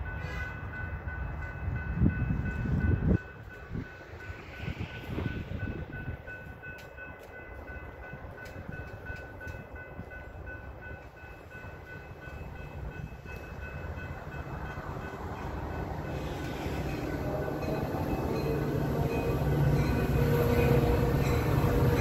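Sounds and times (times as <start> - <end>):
crossing bells ringing: 0.0 - 22.0
train rumbling: 0.0 - 22.0.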